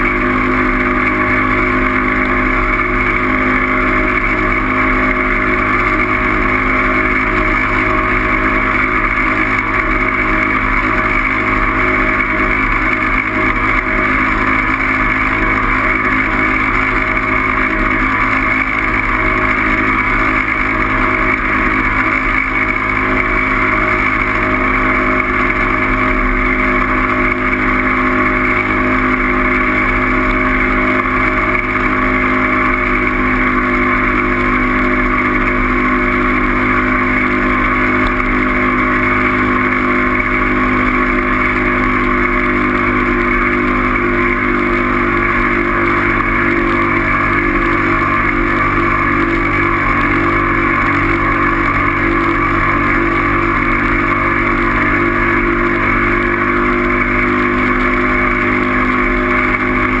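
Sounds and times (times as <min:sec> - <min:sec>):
steady motor drone: 0:00.0 - 1:00.0.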